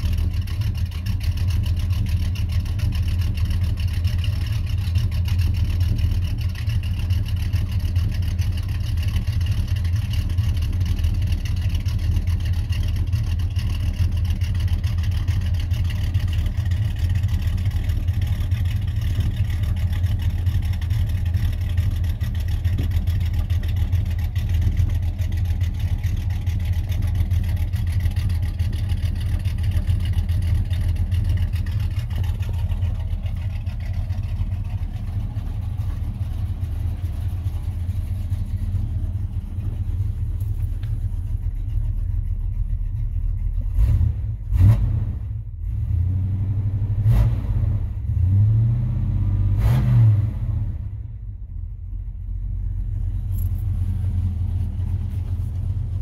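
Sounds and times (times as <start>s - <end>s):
engine idling and revving: 0.0s - 56.0s.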